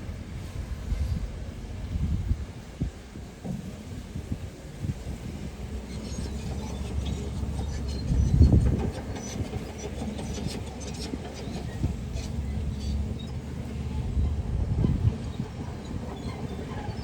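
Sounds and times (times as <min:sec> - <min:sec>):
construction machine rumbling: 0:00.0 - 0:17.0.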